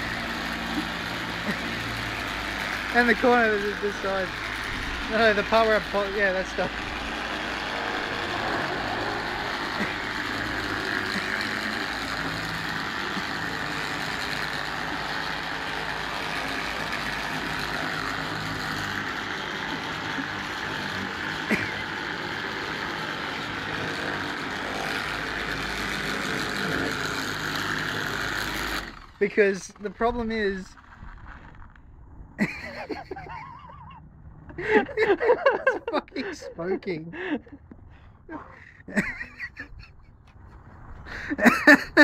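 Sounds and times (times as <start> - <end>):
angle grinder polishing whine: 0.0 - 31.8, 32.4 - 36.3.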